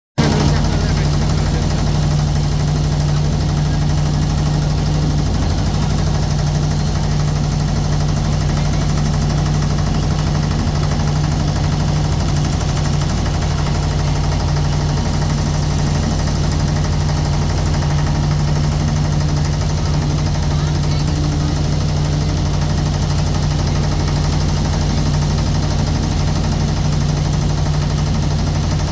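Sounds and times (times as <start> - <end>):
motorboat engine knocking hum: 0.2 - 28.9.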